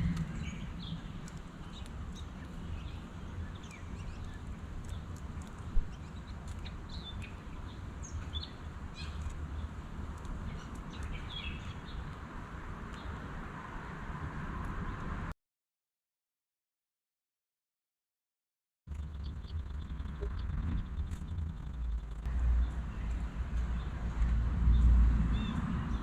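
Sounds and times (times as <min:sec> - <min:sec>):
birds chirping: 0:00.0 - 0:14.0, 0:18.9 - 0:26.0
low outdoor rumble: 0:00.0 - 0:15.3, 0:18.9 - 0:26.0.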